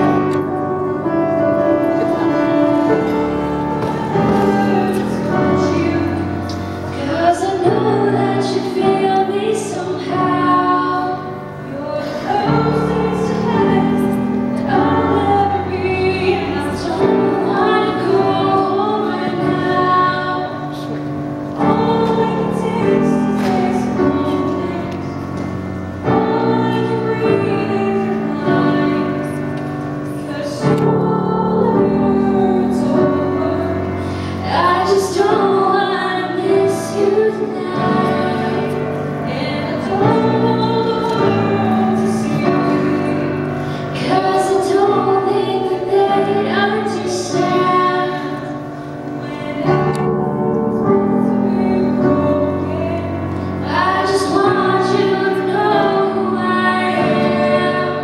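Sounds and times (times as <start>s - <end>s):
grand piano: 0.0s - 58.0s
woman singing slow song: 0.0s - 58.0s.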